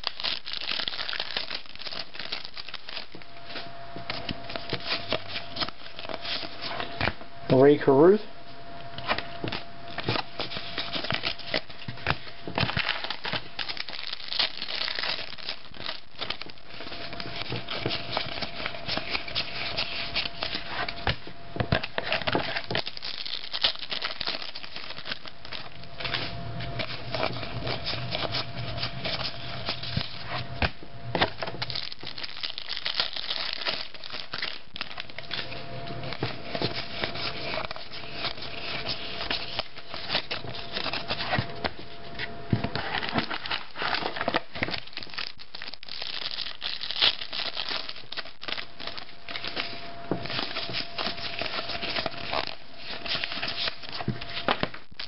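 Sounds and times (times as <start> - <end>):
foil wrapper crinkling and tearing: 0.0 - 7.0, 9.0 - 30.4, 31.2 - 42.0, 42.6 - 55.0
cards rustling and clicking: 0.0 - 7.1, 9.0 - 55.0.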